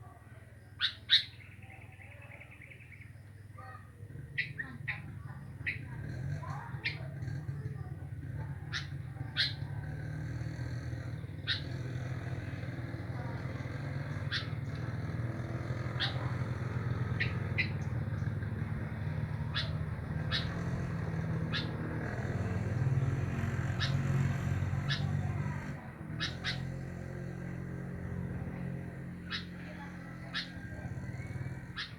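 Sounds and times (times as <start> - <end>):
bird chirping: 0.5 - 31.9.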